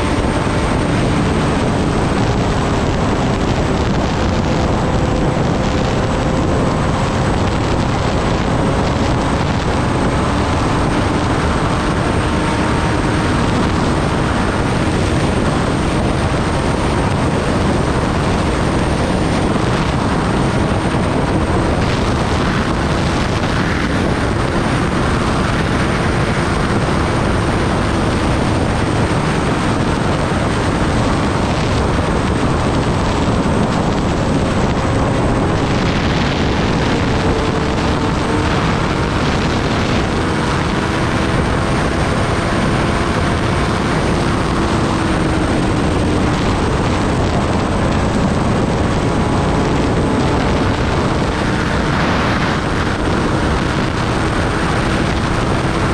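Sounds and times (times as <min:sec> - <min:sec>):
motorcycle engine: 0:00.0 - 0:55.9
wind rushing on microphone: 0:00.0 - 0:55.9.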